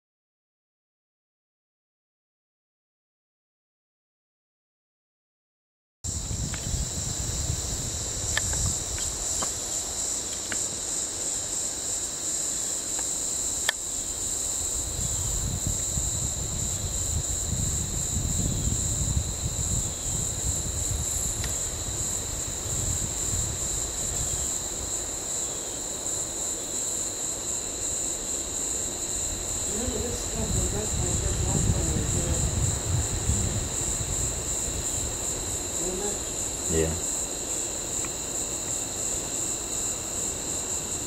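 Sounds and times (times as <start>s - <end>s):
high-pitched insect chorus: 6.1s - 41.0s.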